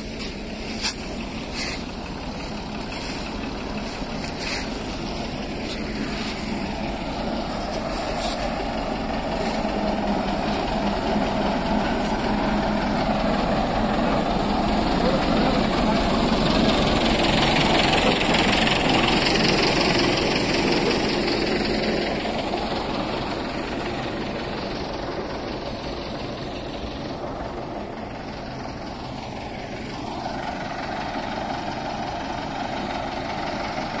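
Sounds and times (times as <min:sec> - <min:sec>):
road roller diesel engine: 0:00.0 - 0:34.0.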